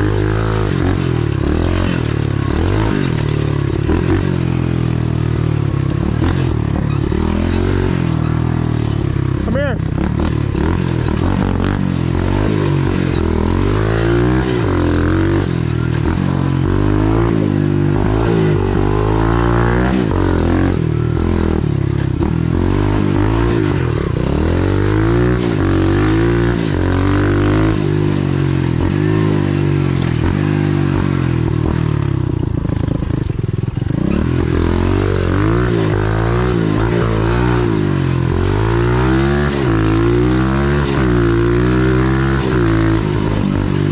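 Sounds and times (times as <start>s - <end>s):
motorbike engine revving: 0.0s - 43.9s.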